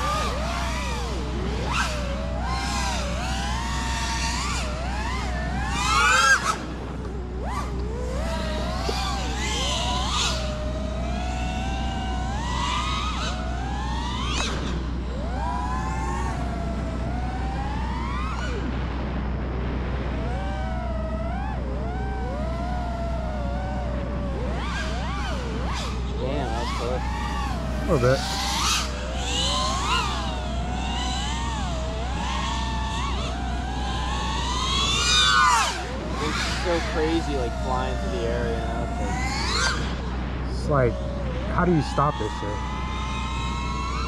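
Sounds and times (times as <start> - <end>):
quadcopter motors whining: 0.0 - 44.0.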